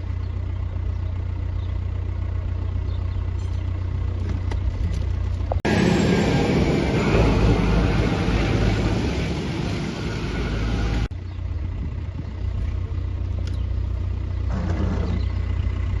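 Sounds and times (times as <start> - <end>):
road noise: 0.0 - 16.0
vehicle engines humming: 0.0 - 16.0.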